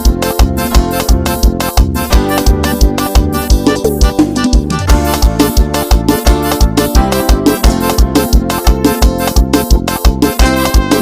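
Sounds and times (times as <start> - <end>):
bass: 0.0 - 11.0
keyboard melody sliding in pitch: 0.0 - 11.0.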